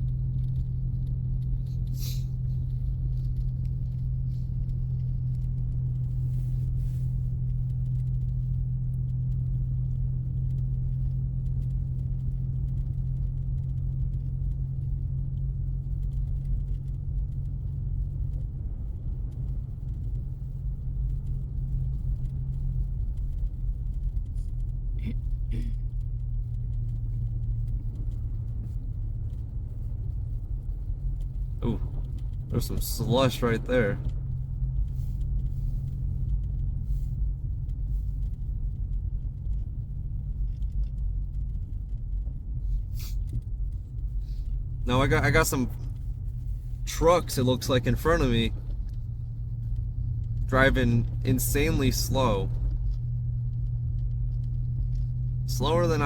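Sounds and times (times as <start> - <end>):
car engine drone: 0.0 - 56.0
road rumble inside car: 0.0 - 56.0.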